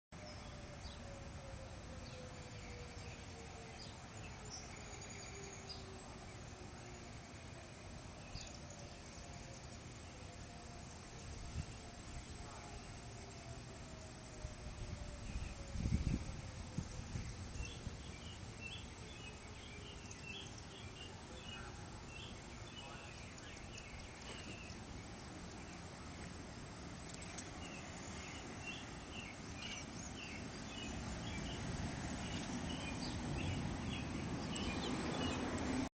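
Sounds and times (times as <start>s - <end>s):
distant tornado warning siren: 0.2s - 35.9s.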